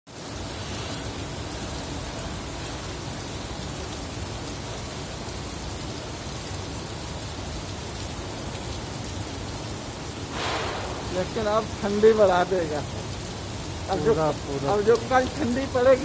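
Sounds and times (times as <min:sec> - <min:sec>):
heavy rain pouring: 0:00.1 - 0:16.0.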